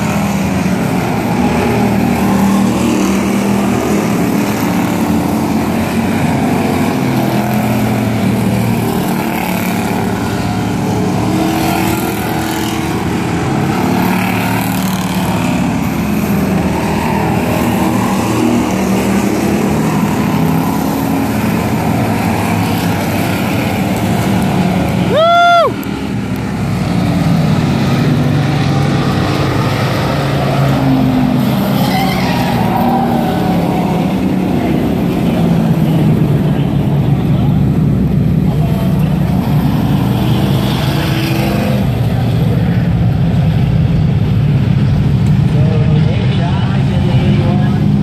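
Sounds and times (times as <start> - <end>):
race car engines passing: 0.0 - 48.0.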